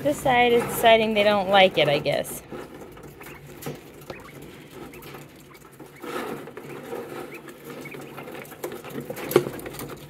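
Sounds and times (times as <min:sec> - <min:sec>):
birds scratching in plastic tub: 0:00.0 - 0:10.0
quail peeping: 0:00.0 - 0:10.0.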